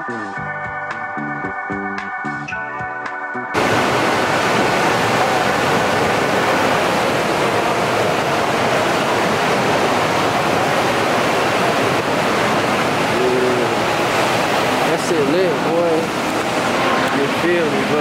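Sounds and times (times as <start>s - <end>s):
fountain water splashing: 3.6s - 18.0s.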